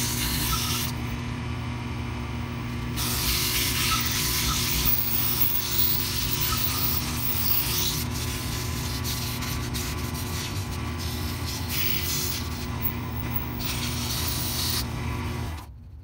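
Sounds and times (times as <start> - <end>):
sandpaper rasping on spinning wood: 0.0 - 1.0, 3.0 - 15.2
lathe motor hum: 0.0 - 15.6.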